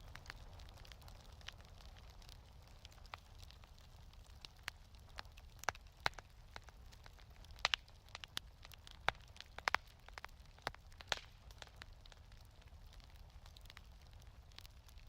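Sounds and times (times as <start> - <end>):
faint low rumble of fire: 0.0 - 15.0
fire pops and snaps: 0.0 - 15.0
wood fire crackling: 0.0 - 15.0.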